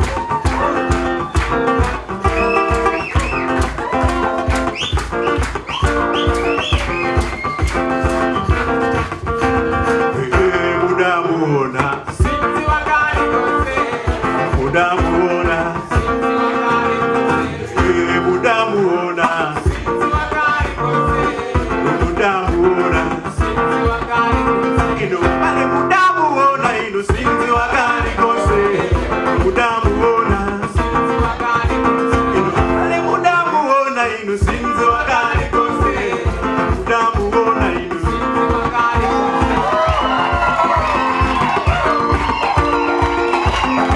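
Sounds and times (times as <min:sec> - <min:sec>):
drum beat: 0:00.0 - 0:10.8, 0:11.8 - 0:25.6, 0:26.7 - 0:33.4, 0:34.3 - 0:43.9
guitar melody: 0:00.0 - 0:43.9
live band music: 0:00.0 - 0:43.9.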